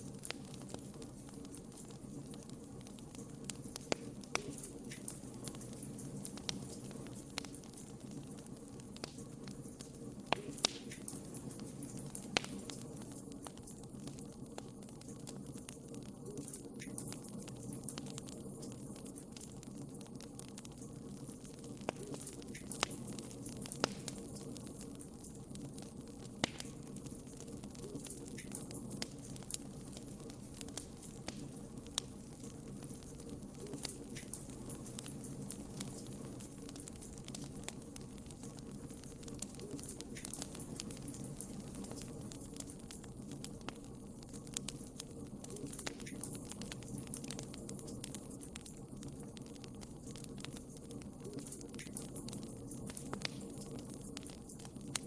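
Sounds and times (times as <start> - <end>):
burning wood crackling: 0.0 - 55.0
low hiss: 0.0 - 55.0.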